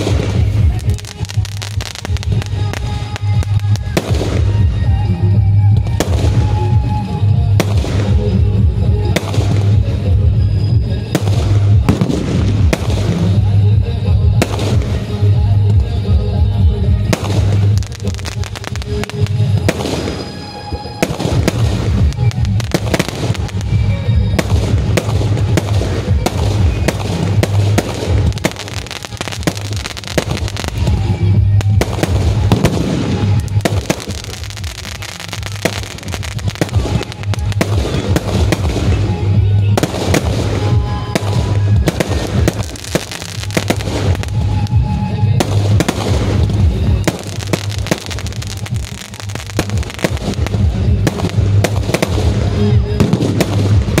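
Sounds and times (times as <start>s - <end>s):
fireworks bangs and crackles: 0.0s - 54.0s
music with strong bass: 0.0s - 54.0s.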